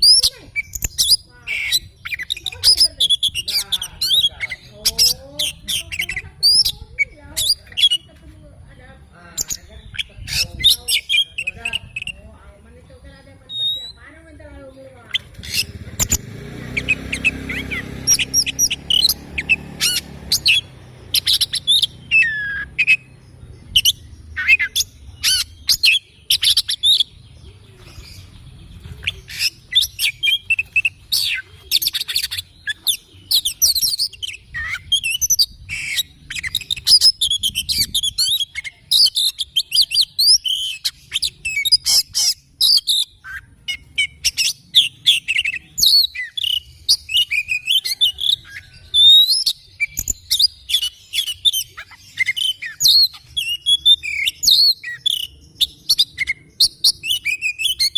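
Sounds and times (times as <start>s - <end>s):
bird singing chirps and whistles: 0.0s - 8.1s, 9.4s - 12.3s, 13.4s - 14.1s, 15.1s - 57.9s.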